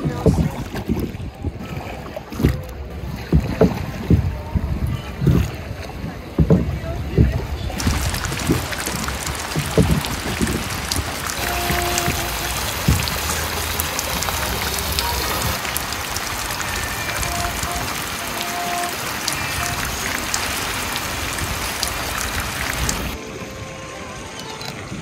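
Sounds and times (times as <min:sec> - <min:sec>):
water splashing and dripping: 0:00.0 - 0:23.8.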